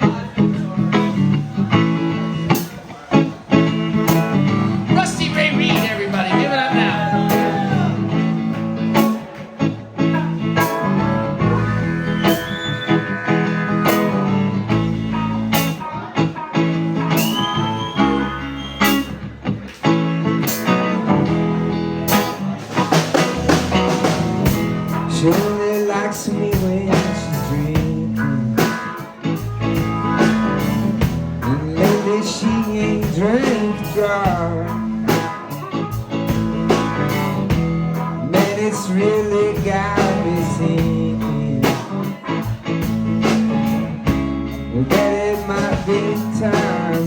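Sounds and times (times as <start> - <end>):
bass line: 0.0 - 47.0
lead guitar with bent notes: 0.0 - 47.0
steady drum beat: 0.5 - 15.9, 20.5 - 47.0.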